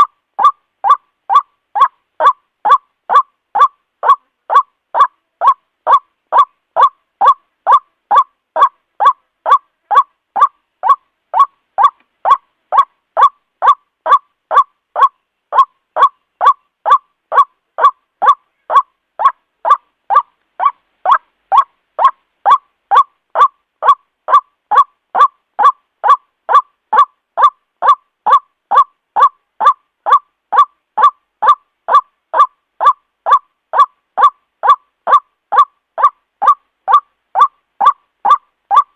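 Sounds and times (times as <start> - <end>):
waterhen honking call: 0.0 - 38.9.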